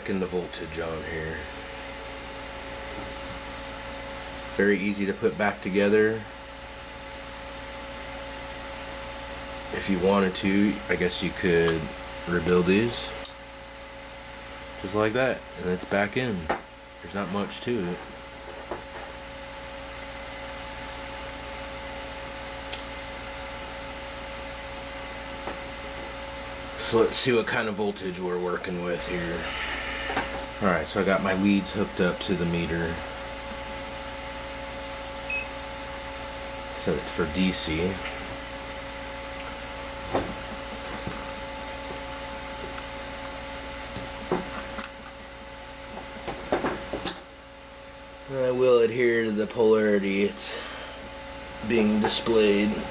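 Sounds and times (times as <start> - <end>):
background hum and hiss: 0.0 - 52.9.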